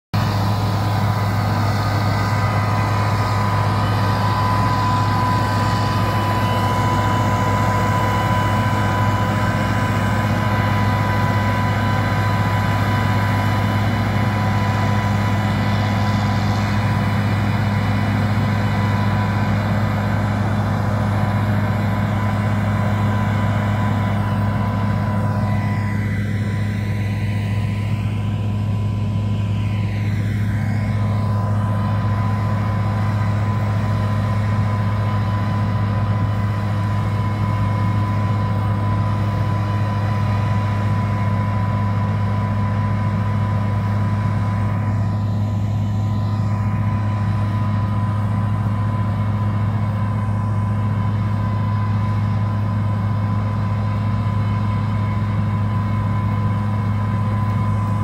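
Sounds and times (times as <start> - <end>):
heavy machinery engine drone: 0.0 - 58.0
high-pitched whines: 0.2 - 58.0.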